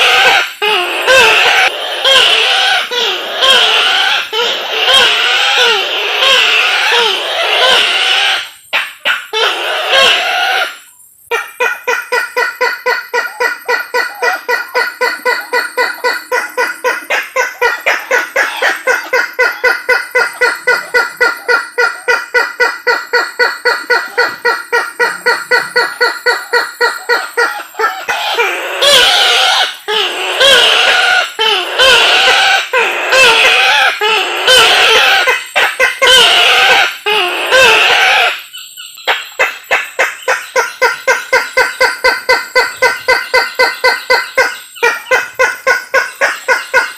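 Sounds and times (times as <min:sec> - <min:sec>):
fast repeated bird call notes: 0:00.0 - 0:46.9
wavering bird calls: 0:00.0 - 0:46.9.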